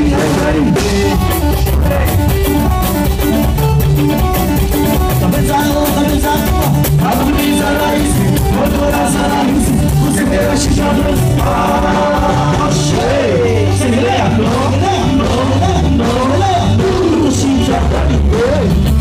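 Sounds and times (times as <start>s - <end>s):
person singing: 0.0s - 2.8s, 4.9s - 19.0s
keyboard dance music: 0.0s - 19.0s.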